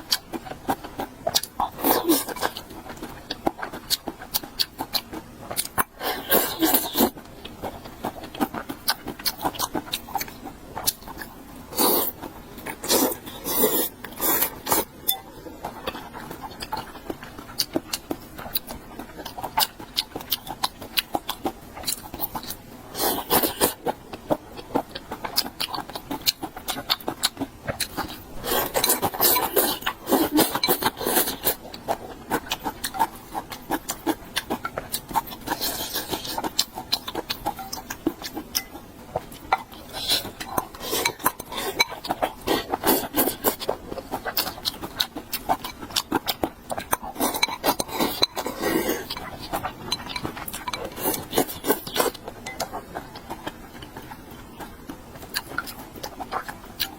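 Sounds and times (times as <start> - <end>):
person chewing with wet clicks: 0.0 - 56.9.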